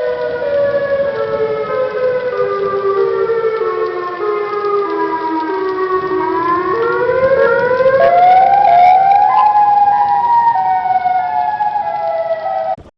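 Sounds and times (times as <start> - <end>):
warning siren: 0.0 - 12.9.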